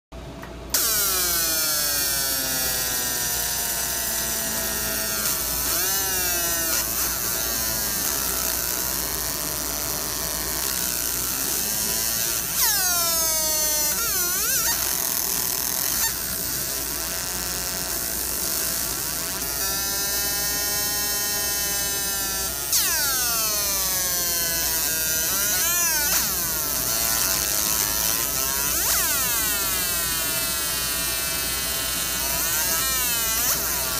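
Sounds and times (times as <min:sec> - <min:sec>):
laser engraver buzzing whine: 0:00.2 - 0:33.9
steady low hum: 0:00.2 - 0:33.9.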